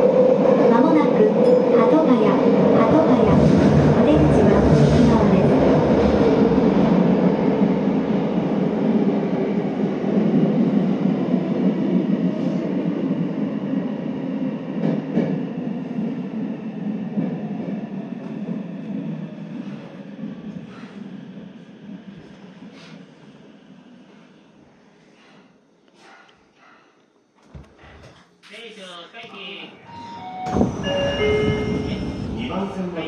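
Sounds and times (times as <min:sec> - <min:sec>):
subway train rumbling in tunnel: 0:00.0 - 0:27.0, 0:28.6 - 0:33.0.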